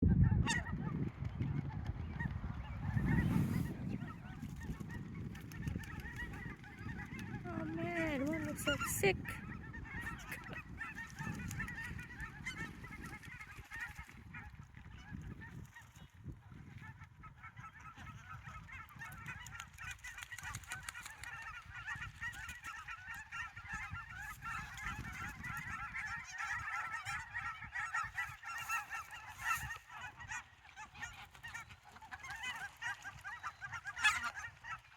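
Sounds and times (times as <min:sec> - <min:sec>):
geese honking: 0:02.0 - 0:15.6, 0:16.9 - 0:34.9.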